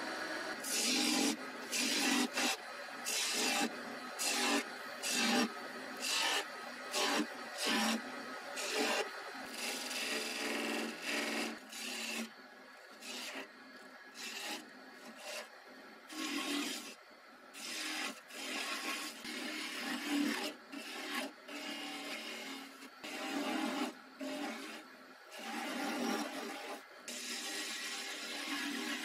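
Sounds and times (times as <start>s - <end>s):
chisel shaving wood on lathe: 0.6s - 13.5s, 14.2s - 15.5s, 16.1s - 17.0s, 17.6s - 29.0s.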